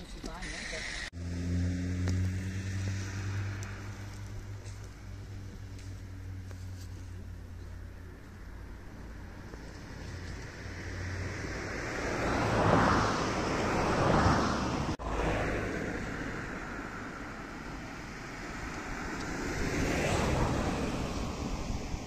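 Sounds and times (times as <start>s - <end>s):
outdoor rushing noise: 0.0s - 7.3s, 8.3s - 22.0s.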